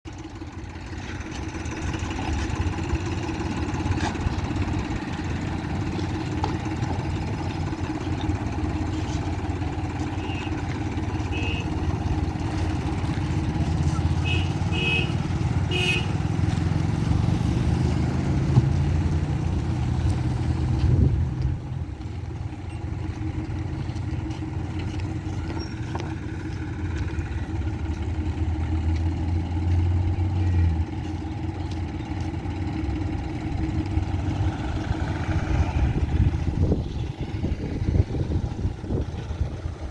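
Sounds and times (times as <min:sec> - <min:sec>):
machinery engine droning: 0:00.1 - 0:39.9.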